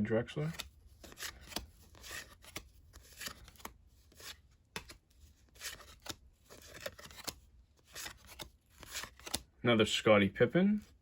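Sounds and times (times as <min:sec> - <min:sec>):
cards flicking and swishing: 0:00.4 - 0:09.4.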